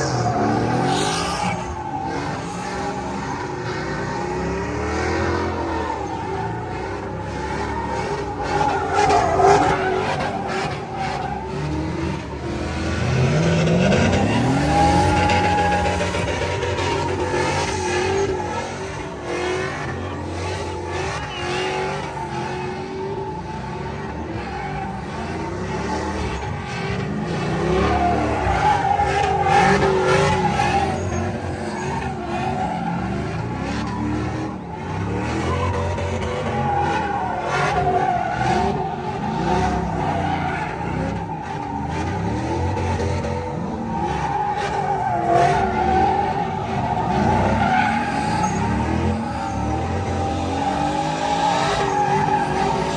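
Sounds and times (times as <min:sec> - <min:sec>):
tires squealing: 0:00.0 - 0:52.9
truck engine revving: 0:00.0 - 0:52.9.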